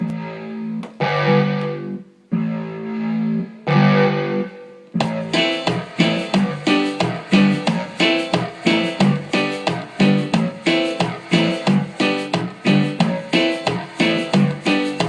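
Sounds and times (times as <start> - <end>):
synthesizer chords: 0.0 - 15.0.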